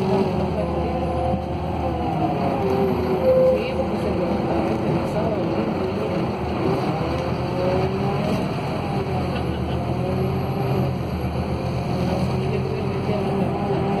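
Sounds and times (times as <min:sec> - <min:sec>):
bus drivetrain hum and whine: 0:00.0 - 0:14.0.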